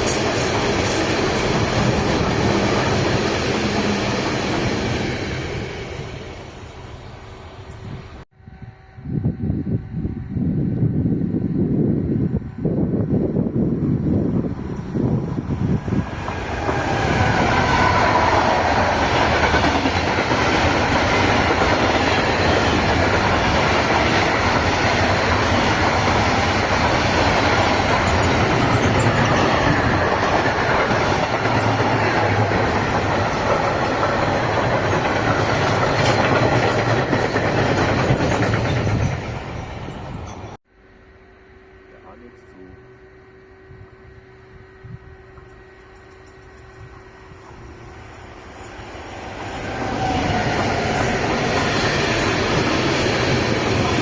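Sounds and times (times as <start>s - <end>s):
train passing on track: 0.0s - 40.6s, 44.2s - 54.0s.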